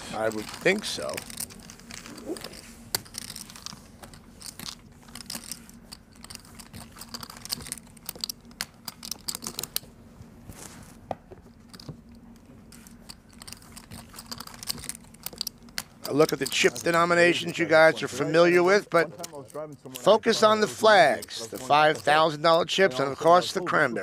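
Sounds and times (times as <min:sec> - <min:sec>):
faint steady hum: 0:00.0 - 0:24.0
poker chips clicking: 0:00.1 - 0:09.9, 0:11.6 - 0:22.6.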